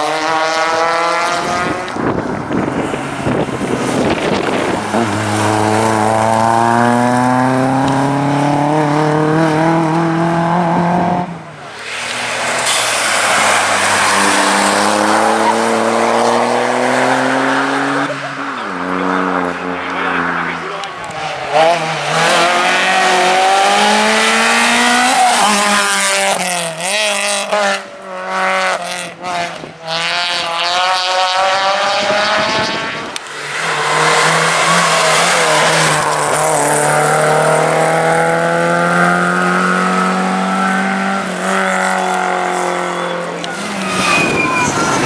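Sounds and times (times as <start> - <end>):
rally car engine revving: 0.0 - 45.0.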